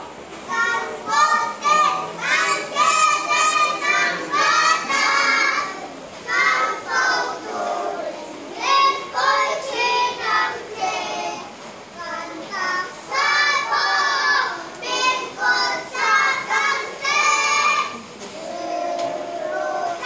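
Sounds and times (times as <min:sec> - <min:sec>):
children singing: 0:00.4 - 0:20.0.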